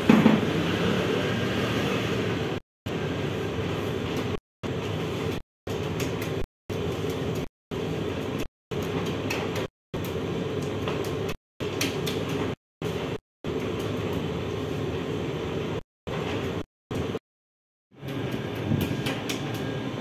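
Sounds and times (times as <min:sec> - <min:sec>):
bakery machinery roaring: 0:00.0 - 0:17.2, 0:17.9 - 0:20.0.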